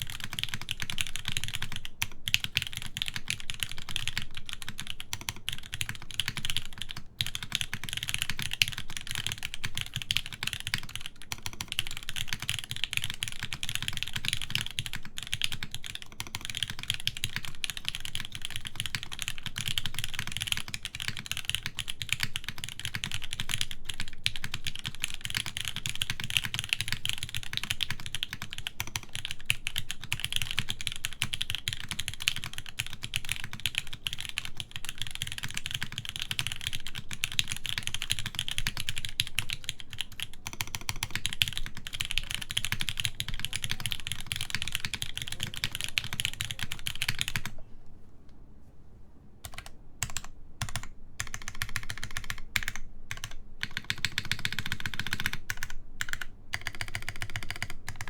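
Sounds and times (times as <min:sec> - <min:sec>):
fast mechanical keyboard typing: 0:00.0 - 0:47.6, 0:49.4 - 0:58.0.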